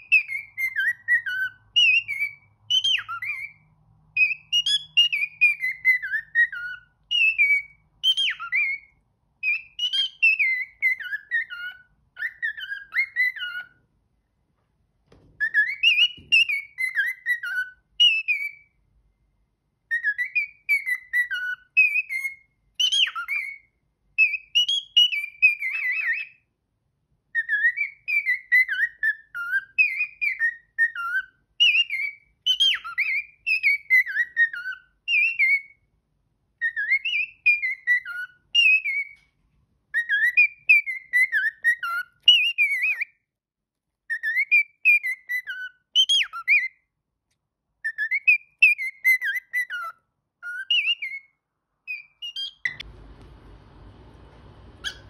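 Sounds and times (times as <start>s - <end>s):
cockatiel whistling: 0.0s - 13.9s, 15.1s - 18.8s, 19.8s - 26.5s, 27.3s - 35.9s, 36.6s - 39.3s, 39.9s - 43.3s, 44.1s - 46.9s, 47.8s - 52.9s, 54.7s - 55.0s.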